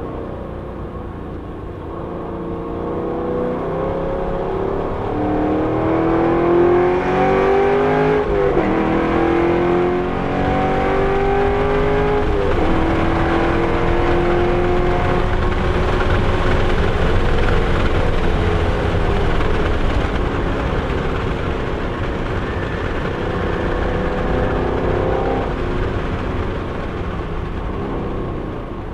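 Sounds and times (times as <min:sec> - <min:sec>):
car engine accelerating: 0:00.0 - 0:28.9
tyre and road noise: 0:00.0 - 0:28.9.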